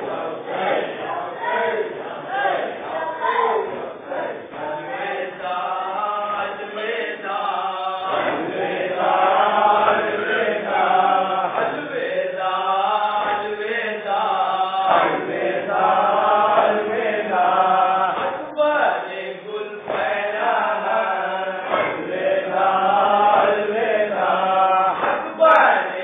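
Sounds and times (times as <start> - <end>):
men chanting a lament: 0.0 - 26.0.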